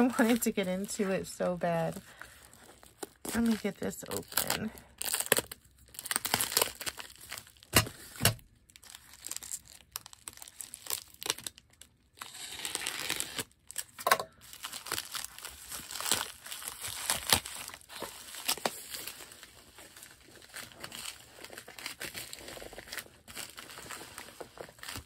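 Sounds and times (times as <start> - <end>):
packaging bag crinkling and tearing: 0.0 - 25.0.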